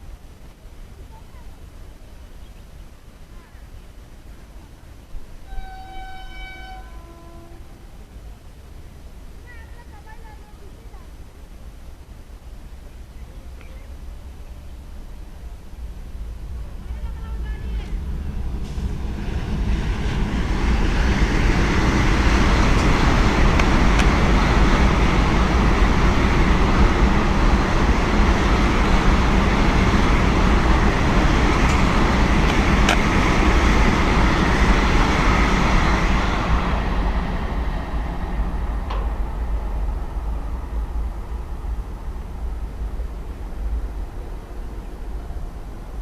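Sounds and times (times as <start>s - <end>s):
train passing: 0.0s - 46.0s.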